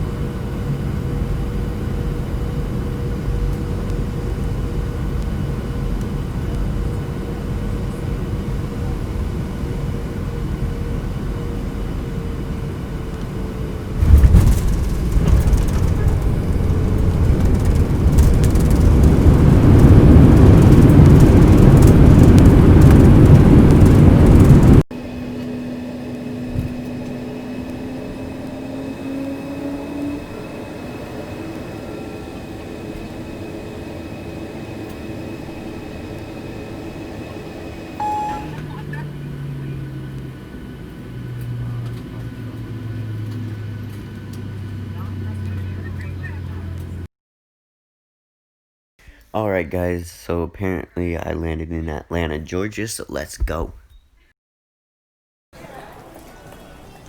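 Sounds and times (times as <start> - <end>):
airliner engines roaring: 0.0 - 47.1
cabin hum with rising whine: 0.0 - 47.1.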